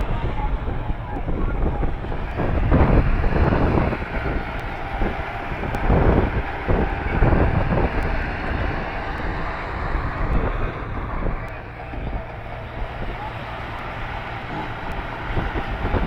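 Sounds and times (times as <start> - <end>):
tractor engine running: 0.0 - 16.0
wind buffeting microphone: 0.0 - 16.0.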